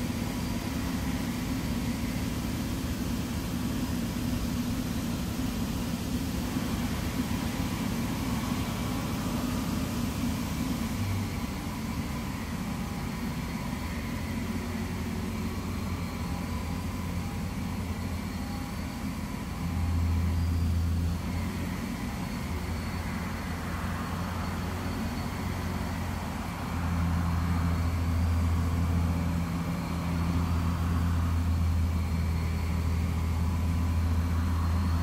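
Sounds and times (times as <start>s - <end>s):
drilling rig engine running: 0.0s - 35.0s.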